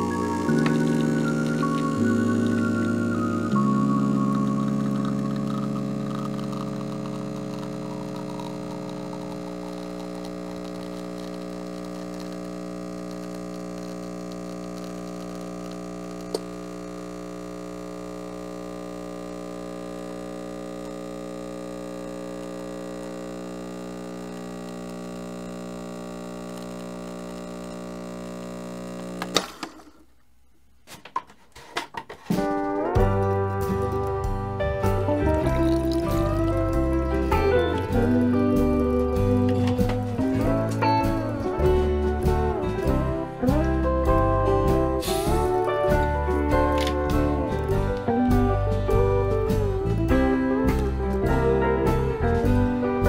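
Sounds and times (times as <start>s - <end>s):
espresso machine pump humming: 0.0s - 29.8s, 33.8s - 50.1s.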